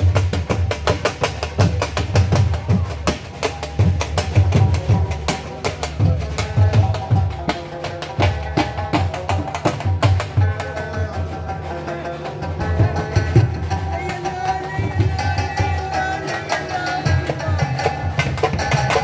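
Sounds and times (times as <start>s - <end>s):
fast dhol drumming: 0.0s - 19.0s.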